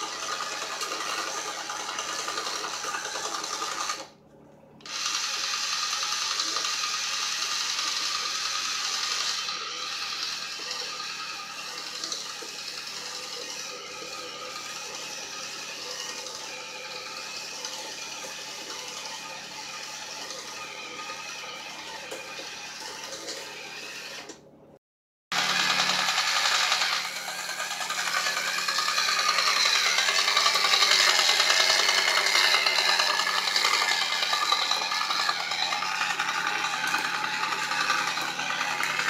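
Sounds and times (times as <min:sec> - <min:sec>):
small electric motor and gear drive: 0:00.0 - 0:04.2, 0:04.8 - 0:24.5, 0:25.3 - 0:39.0.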